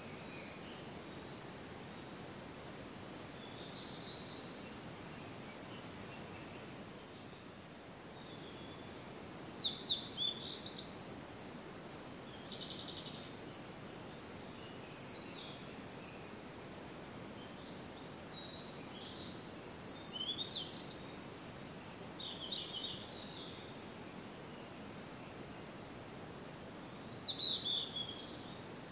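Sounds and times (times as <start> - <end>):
outdoor hiss: 0.0 - 28.9
wild birds singing: 0.0 - 28.9.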